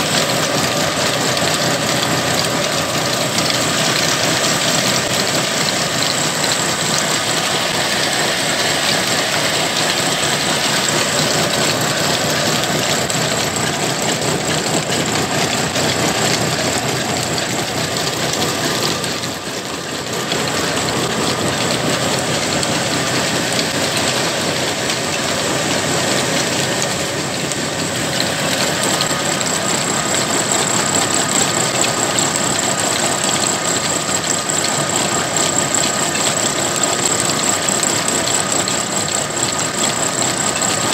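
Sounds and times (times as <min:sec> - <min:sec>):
diesel engine running: 0:00.0 - 0:40.9
mechanical clatter with whine: 0:00.0 - 0:40.9.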